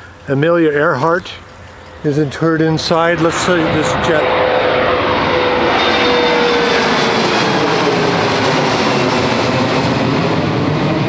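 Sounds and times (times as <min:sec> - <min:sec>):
jet engine roar and whine: 0:00.0 - 0:11.0.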